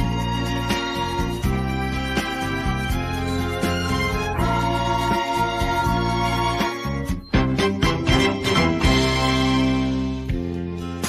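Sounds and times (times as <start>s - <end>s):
karaoke backing music with strings: 0.0s - 11.0s.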